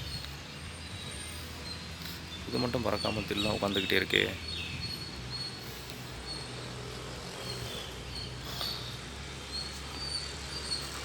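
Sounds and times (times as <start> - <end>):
high bird chirps: 1.0 - 6.7, 7.3 - 11.0.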